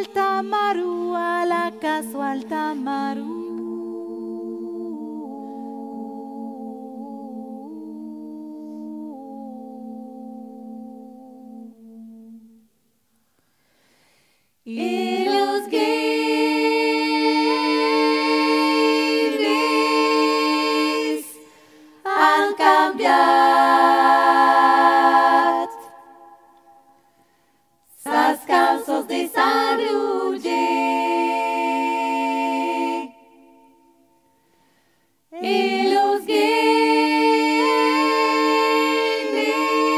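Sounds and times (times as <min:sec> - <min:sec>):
women's vocal group singing a cappella: 0:00.0 - 0:12.8, 0:14.6 - 0:27.0, 0:27.8 - 0:34.2, 0:35.3 - 0:39.9.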